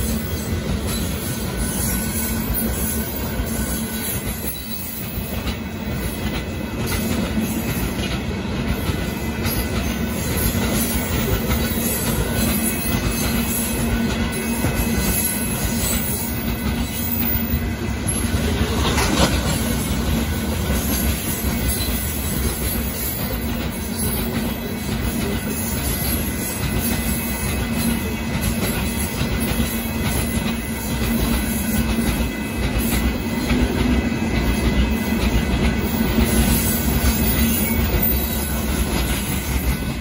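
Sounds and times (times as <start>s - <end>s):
freight train wheels clattering: 0.0s - 40.0s.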